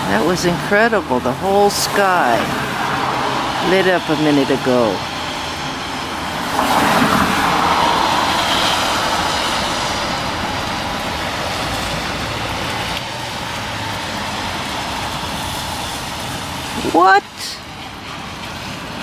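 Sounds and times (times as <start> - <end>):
car tyres hissing on wet road: 0.0 - 19.0
wet street noise: 0.0 - 19.0.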